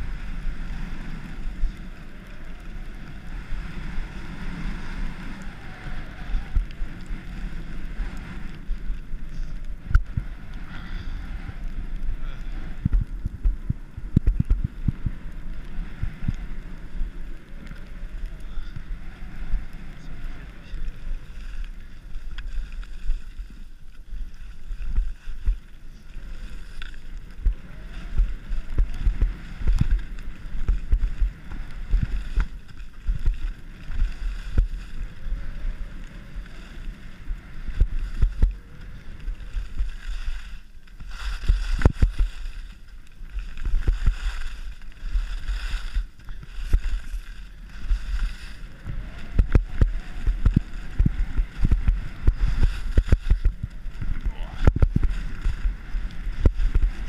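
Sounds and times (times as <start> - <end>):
skis swishing through snow: 0.0 - 57.0
wind buffeting microphone: 0.0 - 57.0.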